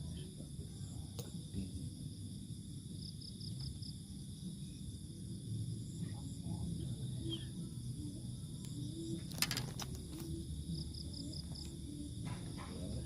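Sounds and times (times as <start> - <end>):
insects chirping chorus: 0.0 - 13.0.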